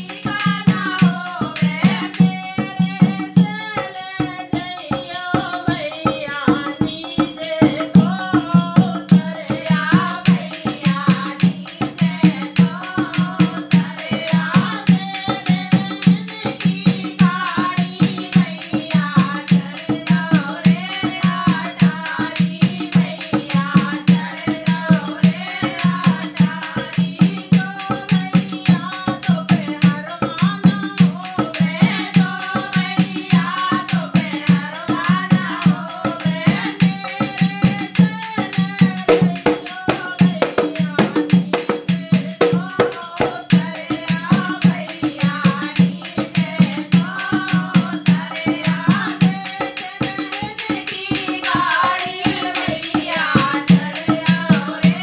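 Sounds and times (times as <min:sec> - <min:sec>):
hand drum fast beat: 0:00.0 - 0:55.0
women singing in unison: 0:00.0 - 0:55.0.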